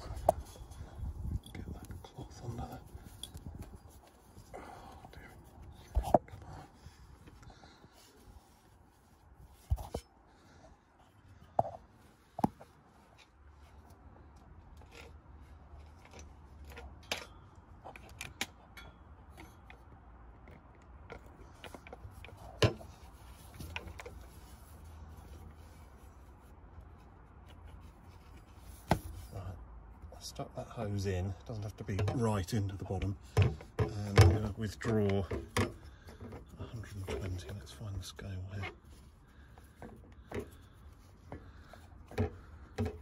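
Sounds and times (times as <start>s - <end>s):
faint rubbing and scraping: 0.0s - 17.0s, 20.5s - 43.0s.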